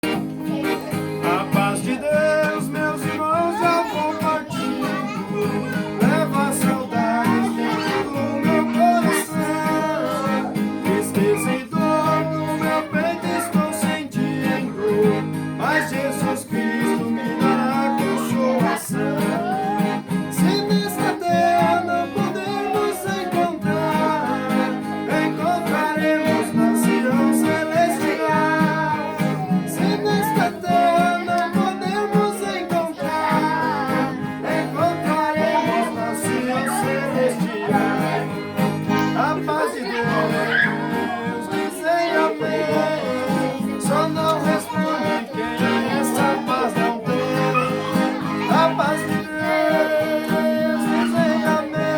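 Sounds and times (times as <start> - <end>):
accordion playing a hymn: 0.0 - 51.9
acoustic guitar: 0.0 - 51.9
man singing: 1.2 - 5.2, 5.9 - 51.9.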